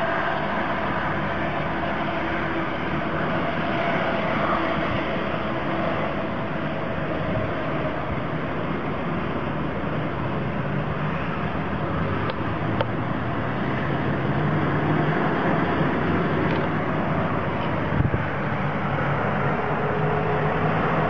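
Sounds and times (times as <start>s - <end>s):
low engine hum: 0.0s - 21.0s
vehicle engines and tyres on road: 0.0s - 21.0s.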